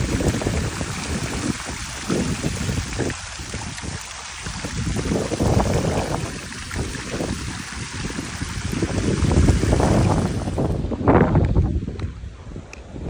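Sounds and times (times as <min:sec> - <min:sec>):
fountain water splashing: 0:00.0 - 0:11.6
wind on microphone: 0:00.0 - 0:13.0.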